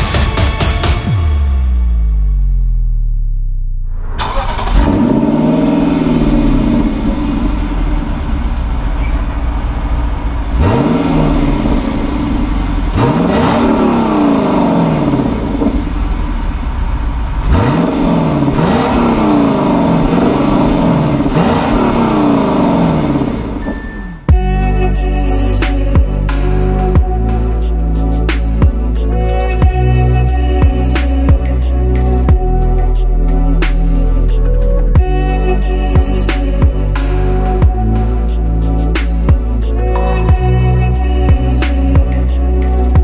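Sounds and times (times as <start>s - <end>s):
car engine idling and revving: 0.0s - 43.0s
car engine starting: 0.0s - 43.0s.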